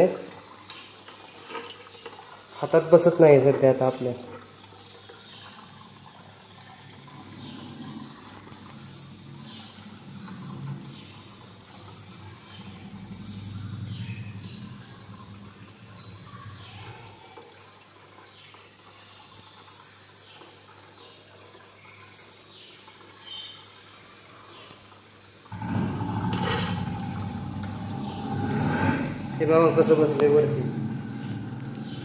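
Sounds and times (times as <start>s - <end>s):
aquarium filter water trickling: 0.0s - 32.0s.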